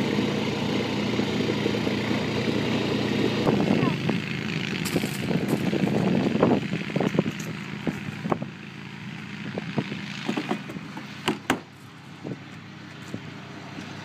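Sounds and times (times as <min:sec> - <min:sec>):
quad engine idling: 0:00.0 - 0:12.9.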